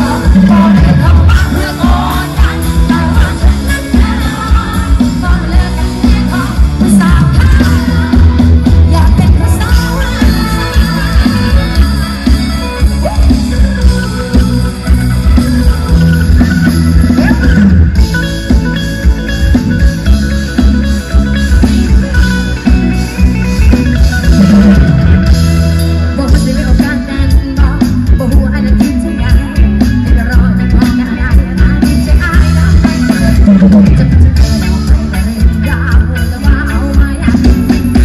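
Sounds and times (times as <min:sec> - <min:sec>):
amplified live band music: 0:00.0 - 0:38.0.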